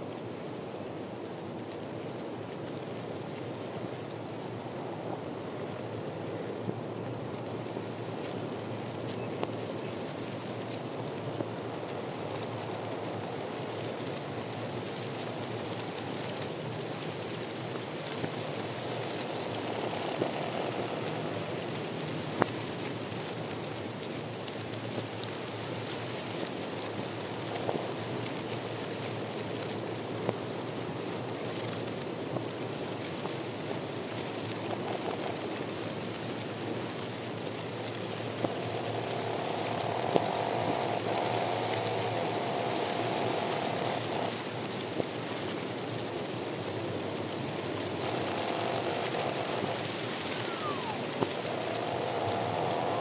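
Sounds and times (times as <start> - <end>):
small clicks and crackles: 0.0 - 53.0.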